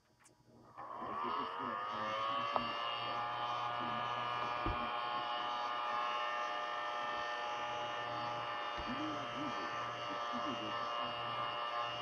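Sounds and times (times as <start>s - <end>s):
heat gun fan whine: 0.6s - 12.0s.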